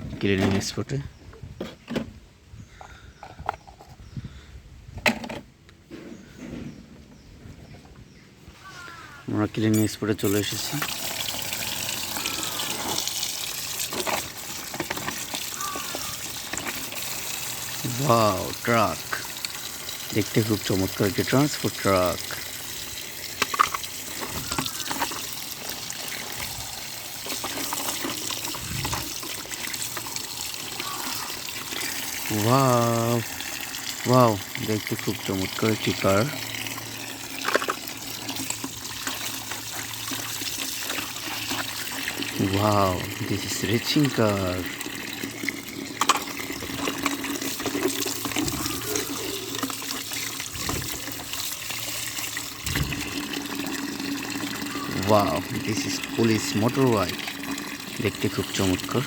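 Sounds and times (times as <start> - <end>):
water running and splashing: 9.8 - 59.0.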